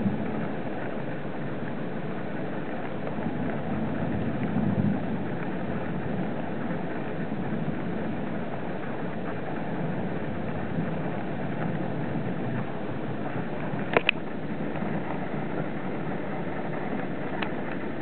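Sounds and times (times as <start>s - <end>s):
thunderstorm rushing noise: 0.0s - 18.0s.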